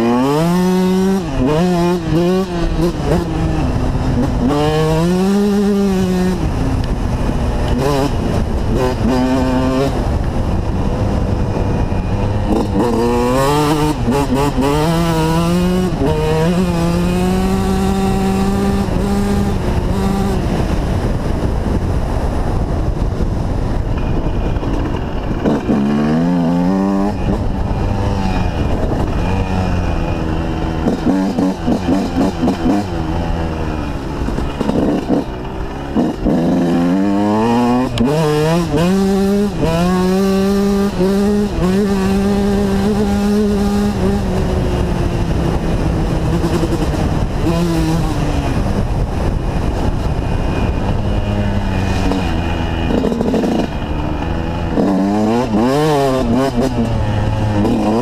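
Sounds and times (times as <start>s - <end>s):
motocross bike engine revving: 0.0s - 21.0s, 24.4s - 58.0s.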